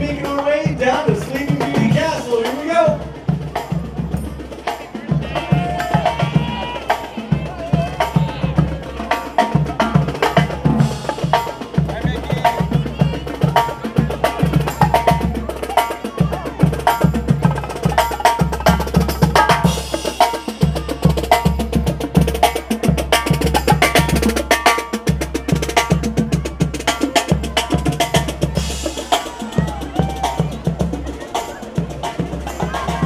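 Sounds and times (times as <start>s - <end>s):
marching band playing: 0.0s - 33.0s
snare and bass drums: 0.0s - 33.0s.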